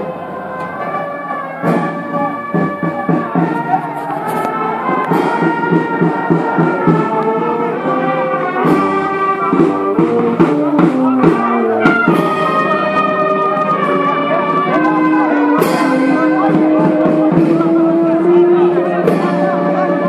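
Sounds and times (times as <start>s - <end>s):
brass band playing slow melody: 0.0s - 20.0s
drum strikes: 0.0s - 20.0s.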